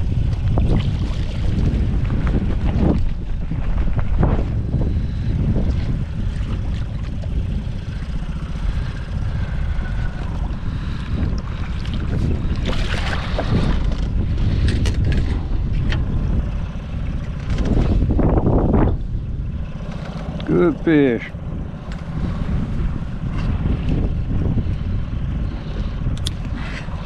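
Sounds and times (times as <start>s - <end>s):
water: 0.0s - 27.0s
wind rumbling on microphone: 0.0s - 27.0s.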